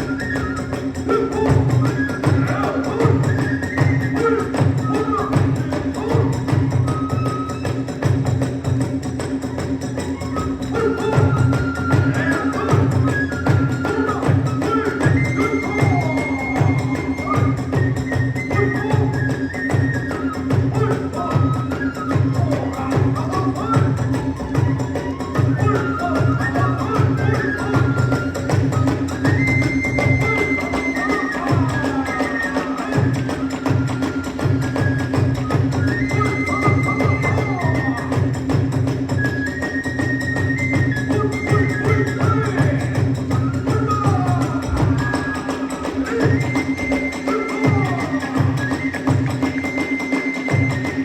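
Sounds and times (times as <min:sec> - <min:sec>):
bamboo flute melody: 0:00.0 - 0:51.0
dense percussion: 0:00.0 - 0:51.0
fast steady drum beat: 0:07.9 - 0:51.0.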